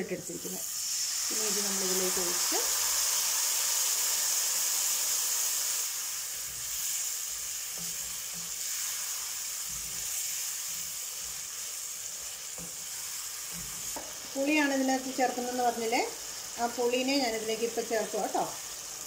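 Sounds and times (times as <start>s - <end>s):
spices sizzling in oil: 0.0s - 19.0s.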